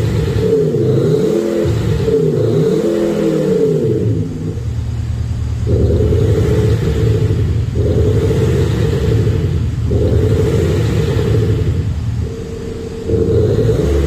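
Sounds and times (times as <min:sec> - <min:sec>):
deep synthetic exhaust rumble: 0:00.0 - 0:14.0.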